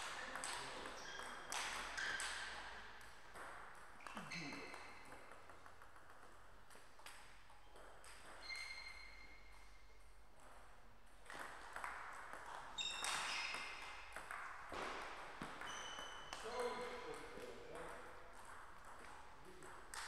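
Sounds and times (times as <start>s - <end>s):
table tennis ball bouncing: 0.0s - 20.0s.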